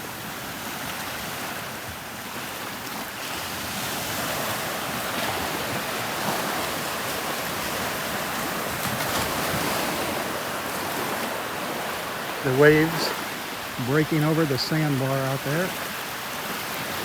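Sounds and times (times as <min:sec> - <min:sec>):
small waves washing onto beach: 0:00.0 - 0:17.0.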